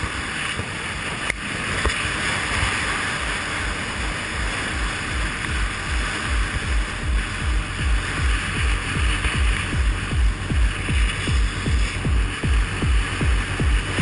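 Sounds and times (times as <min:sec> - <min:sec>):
jet ski engine: 0:00.0 - 0:14.0
water spray rushing: 0:00.0 - 0:14.0
wind noise: 0:00.0 - 0:14.0.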